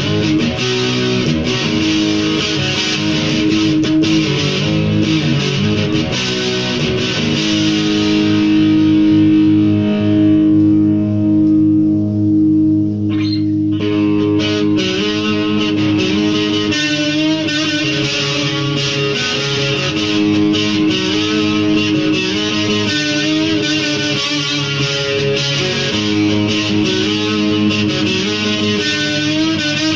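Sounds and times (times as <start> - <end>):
electric guitar solo: 0.0 - 29.9.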